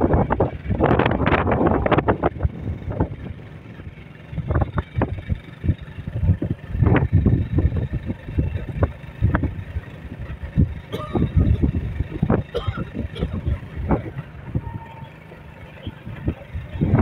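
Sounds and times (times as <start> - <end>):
wind buffeting microphone: 0.0 - 15.1, 15.8 - 17.0
road vehicle moving: 0.0 - 17.0.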